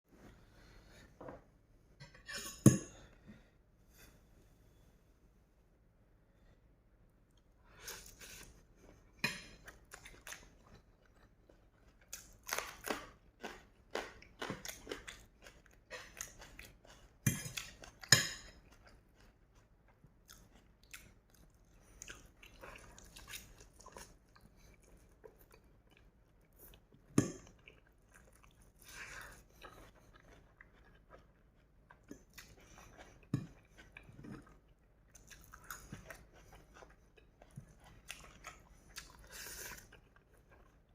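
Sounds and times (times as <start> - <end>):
person chewing and crunching noodles: 7.2 - 40.9.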